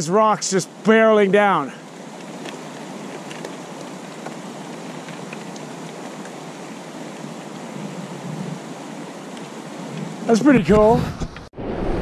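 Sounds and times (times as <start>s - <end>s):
river rushing over boulders: 0.0s - 11.0s.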